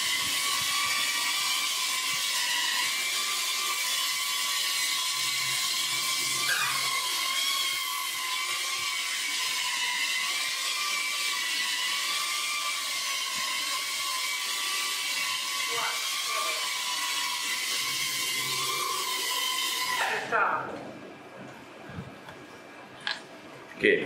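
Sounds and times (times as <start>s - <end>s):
quadcopter propellers whining: 0.0s - 20.6s.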